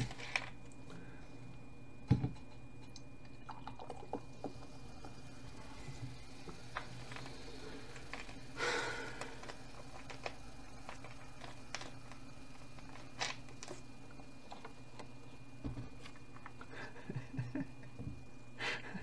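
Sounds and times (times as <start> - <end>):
electrical hum: 0.0 - 19.0
faint high whine: 0.0 - 19.0.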